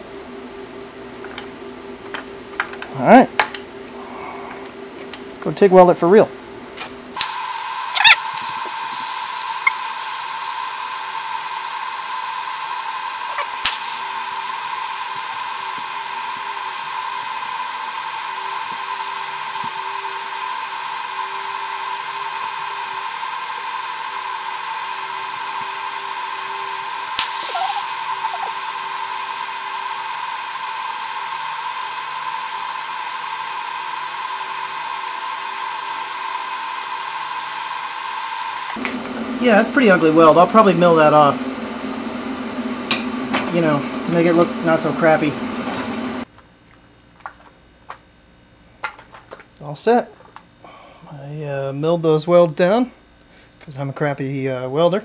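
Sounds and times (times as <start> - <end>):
welding arc humming: 7.1 - 53.4.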